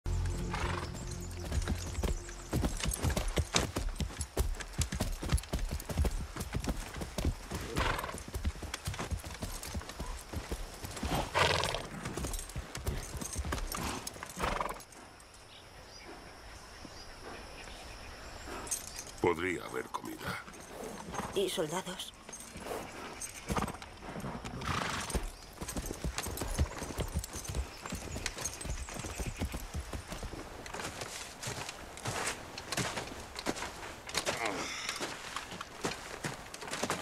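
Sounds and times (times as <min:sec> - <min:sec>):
horse hooves clip-clopping: 0:00.1 - 0:15.3, 0:18.5 - 0:37.0.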